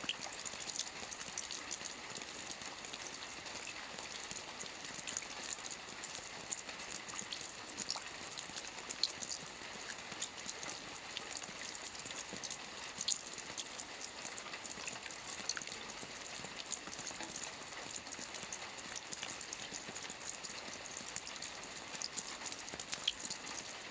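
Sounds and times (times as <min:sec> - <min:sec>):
rain drops on a hard surface: 0:00.0 - 0:23.9.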